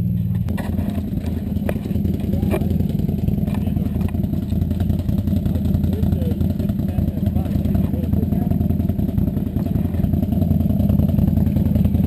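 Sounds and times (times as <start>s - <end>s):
atv engine running: 0.0s - 12.0s
sharp knocks and clatters: 0.2s - 10.4s.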